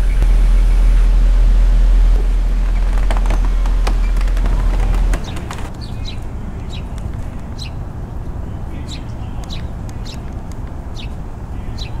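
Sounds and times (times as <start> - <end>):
steady low rumble: 0.0 - 12.0
small birds chirping: 2.3 - 12.0.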